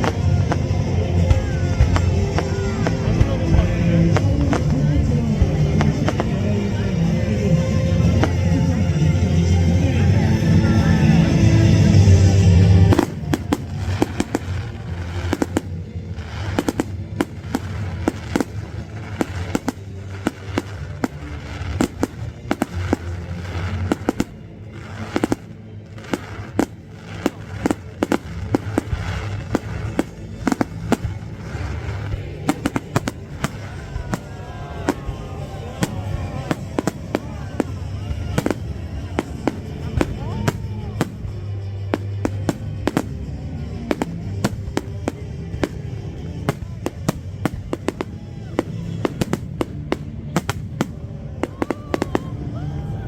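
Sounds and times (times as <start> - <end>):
fireworks bangs and crackles: 0.0 - 53.0
music playing: 0.0 - 53.0.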